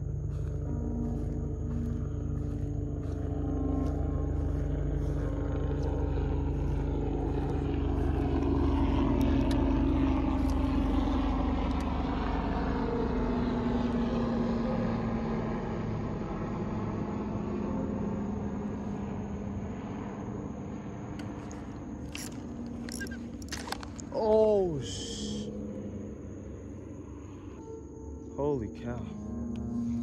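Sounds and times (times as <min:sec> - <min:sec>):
passing engine hum: 0:00.0 - 0:30.0.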